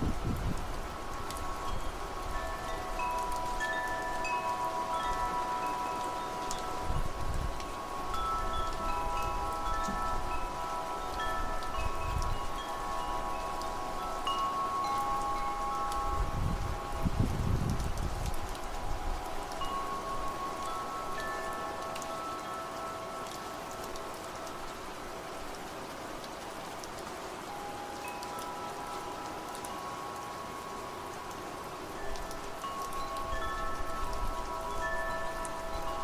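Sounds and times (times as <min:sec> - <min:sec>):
low wind gusts: 0:00.0 - 0:36.0
wind chimes ringing: 0:00.0 - 0:36.0.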